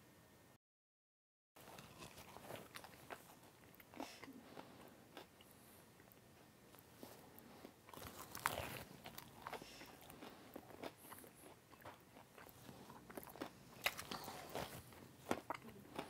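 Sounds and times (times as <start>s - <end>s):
person chewing a pancake: 1.6s - 16.0s.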